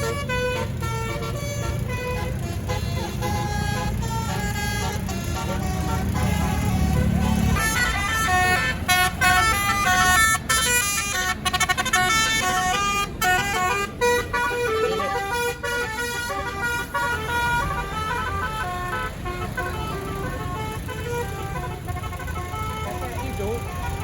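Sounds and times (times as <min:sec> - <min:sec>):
musical bus horn tune: 0:00.0 - 0:24.0
vehicle noise: 0:00.0 - 0:24.0.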